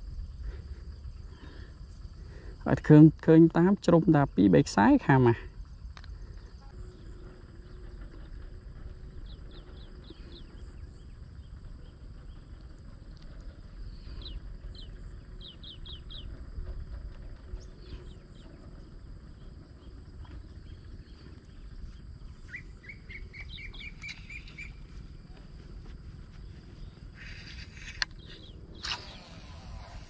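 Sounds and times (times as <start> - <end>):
steady low rumble: 0.0 - 30.0
small birds chirping: 4.2 - 30.0.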